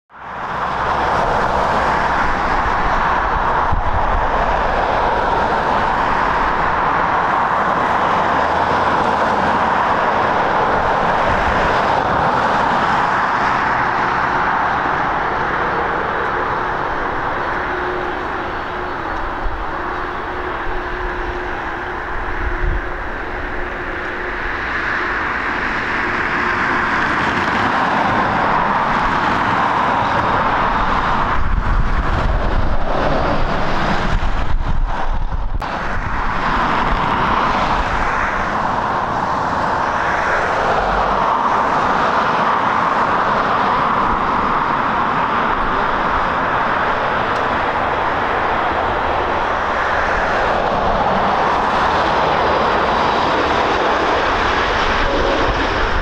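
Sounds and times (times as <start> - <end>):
jet engines roaring: 0.2 - 56.0.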